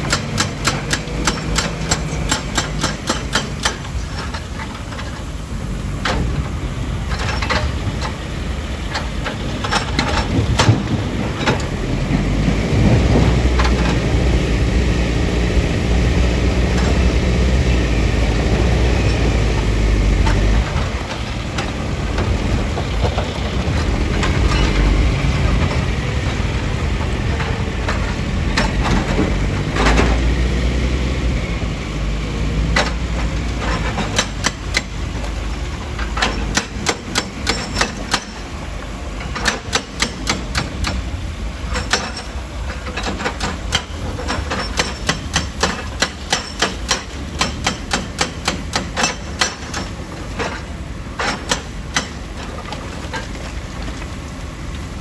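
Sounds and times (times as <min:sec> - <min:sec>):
diesel engine deep rumble: 0:00.0 - 0:55.0.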